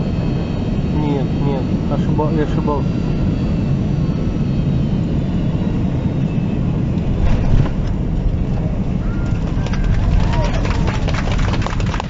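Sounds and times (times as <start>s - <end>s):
airliner engine and airflow rumble: 0.0s - 12.0s.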